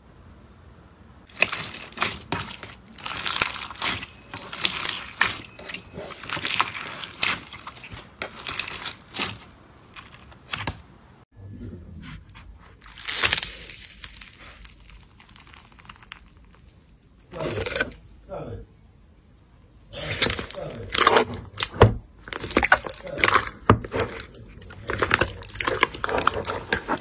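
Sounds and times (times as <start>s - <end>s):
slime crackling and tearing: 1.2s - 10.8s, 12.7s - 18.1s, 19.9s - 27.0s
slime squishing by hand: 1.2s - 11.0s, 12.0s - 18.1s, 19.9s - 27.0s.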